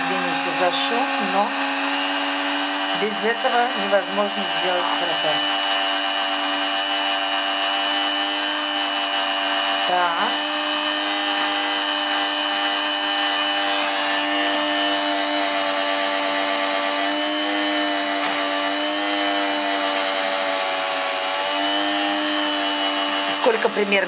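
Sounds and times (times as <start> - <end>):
drink mixer motor whine: 0.0 - 24.0.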